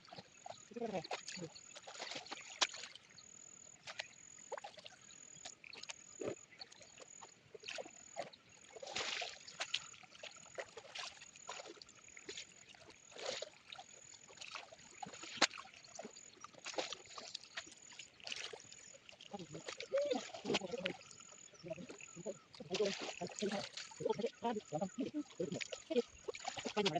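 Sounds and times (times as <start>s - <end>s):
stream water sloshing and splashing: 0.0s - 26.9s.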